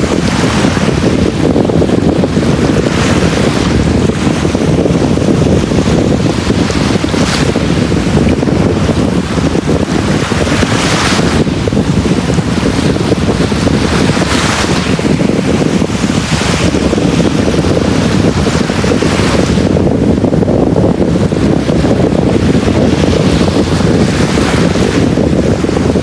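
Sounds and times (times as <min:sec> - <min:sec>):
sea waves breaking on beach: 0:00.0 - 0:26.0
wind rumbling on microphone: 0:00.0 - 0:26.0.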